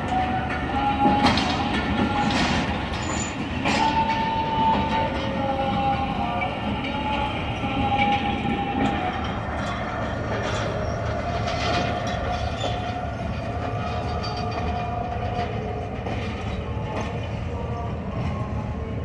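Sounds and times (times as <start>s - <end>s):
train wheels running on track: 0.0s - 19.0s.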